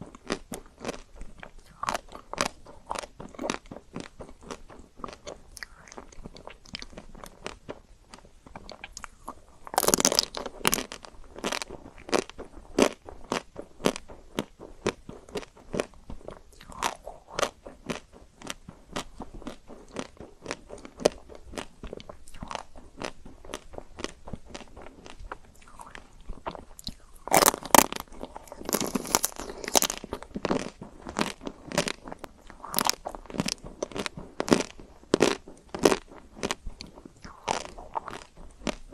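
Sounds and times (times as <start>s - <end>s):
chewing crunchy chocolate: 0.0s - 38.9s.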